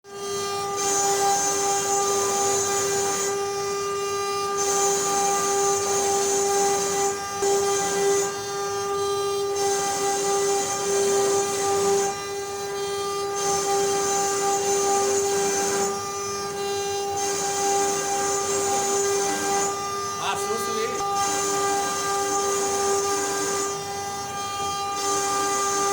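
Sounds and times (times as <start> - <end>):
wood router spindle whine: 0.1 - 25.9.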